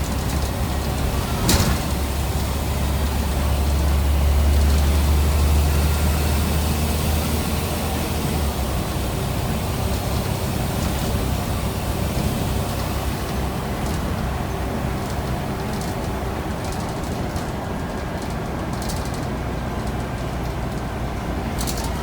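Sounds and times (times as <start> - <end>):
bus diesel engine rumbling: 0.0 - 22.0.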